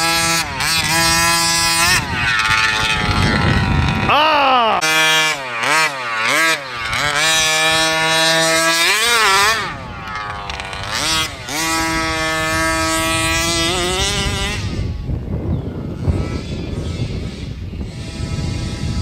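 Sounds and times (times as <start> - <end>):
small two-stroke engine revving: 0.0 - 19.0.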